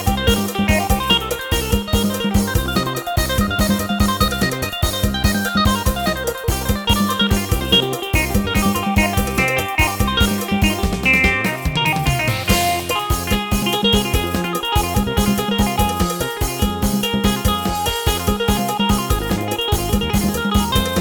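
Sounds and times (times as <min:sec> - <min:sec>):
drum-kit accompaniment: 0:00.0 - 0:21.0
plucked guitar-like keyboard melody: 0:00.0 - 0:21.0.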